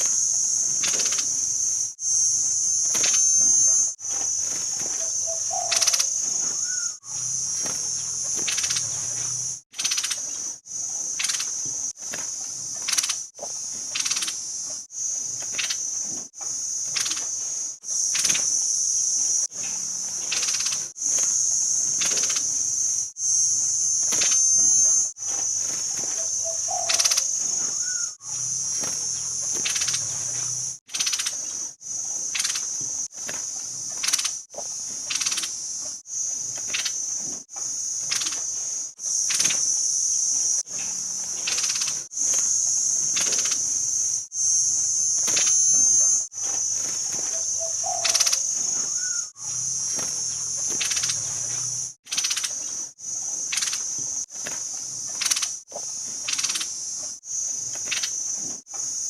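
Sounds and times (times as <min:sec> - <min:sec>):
bird calls: 0:00.0 - 0:14.4, 0:15.2 - 0:35.6, 0:36.4 - 0:52.9, 0:53.5 - 0:56.8, 0:57.7 - 0:58.4
high-pitched insect drone: 0:00.0 - 0:59.0.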